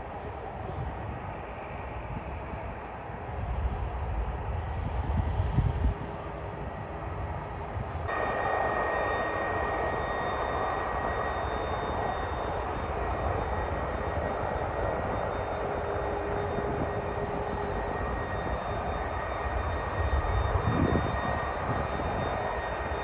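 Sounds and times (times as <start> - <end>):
jet engine roar with whine: 0.0 - 23.0.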